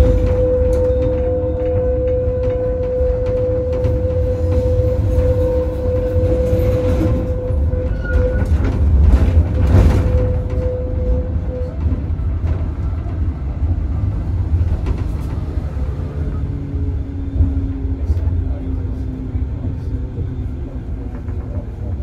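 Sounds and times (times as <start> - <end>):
tram rumbling on rails: 0.0 - 22.0.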